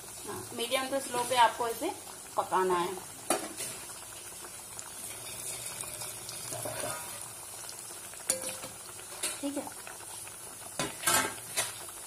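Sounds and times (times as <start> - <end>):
dough deep-frying in oil: 0.0 - 12.0.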